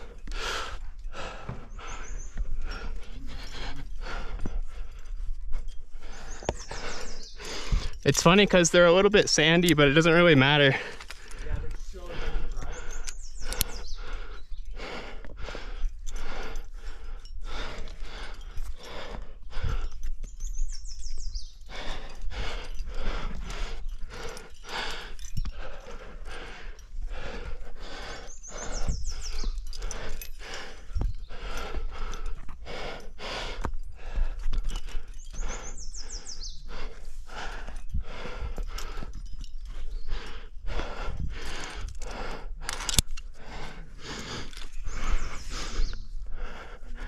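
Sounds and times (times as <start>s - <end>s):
person breathing hard: 0.0s - 8.1s, 10.1s - 47.0s.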